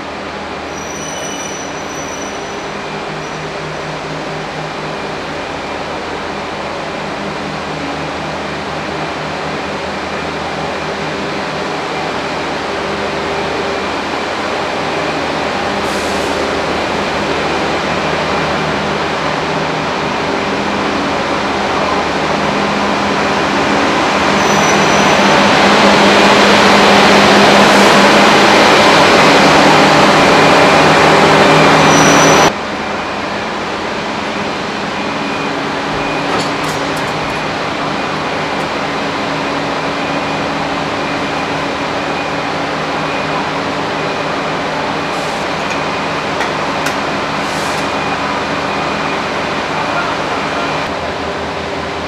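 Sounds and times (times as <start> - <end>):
passenger train running: 0.0 - 52.0.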